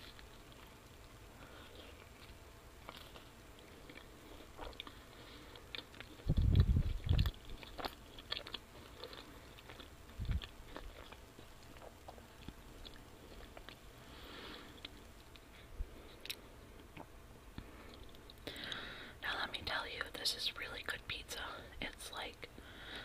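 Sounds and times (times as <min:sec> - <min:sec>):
chewing pizza: 0:00.0 - 0:18.9.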